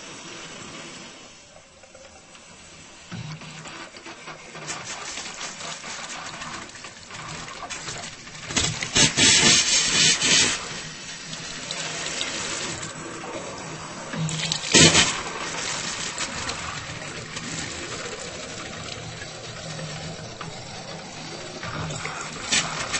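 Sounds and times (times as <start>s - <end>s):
water tap sputtering: 0.0s - 22.9s.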